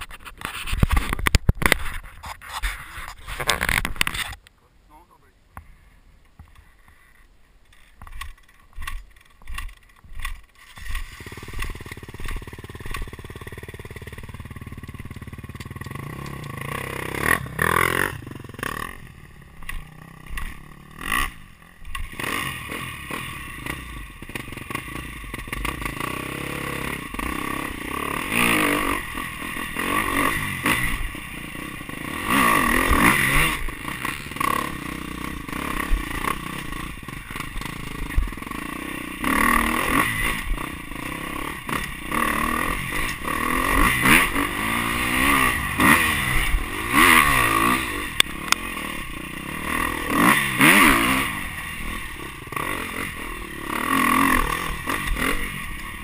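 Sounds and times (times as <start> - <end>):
dirt bike engine revving: 8.1 - 56.0.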